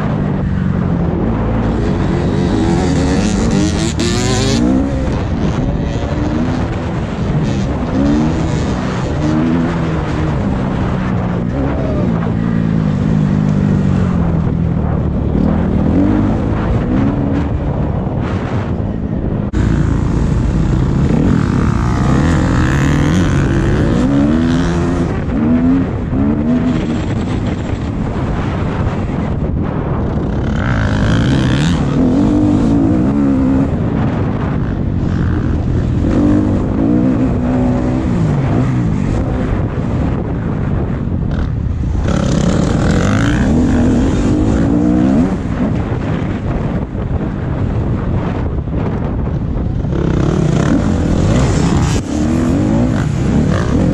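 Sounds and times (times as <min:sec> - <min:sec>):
motocross bike engine revving: 0:00.0 - 0:18.0, 0:19.5 - 0:29.0, 0:30.1 - 0:40.1, 0:41.3 - 0:46.4, 0:49.8 - 0:53.9.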